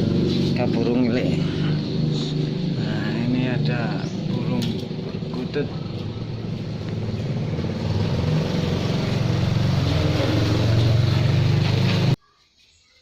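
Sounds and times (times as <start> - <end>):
vehicle engine running: 0.0 - 12.2.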